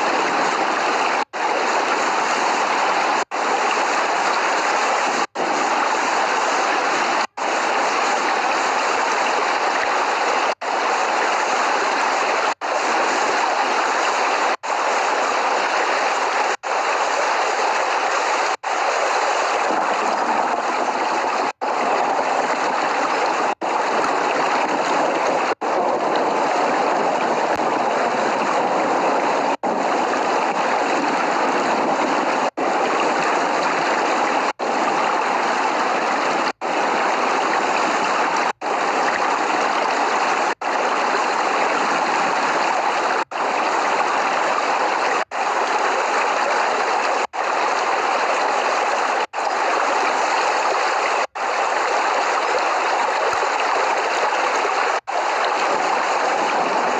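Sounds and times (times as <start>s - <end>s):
heavy rain: 0.0s - 56.9s.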